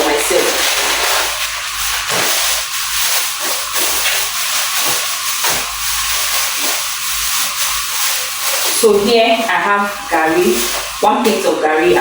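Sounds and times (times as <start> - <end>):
steady loud hiss: 0.0 - 12.0.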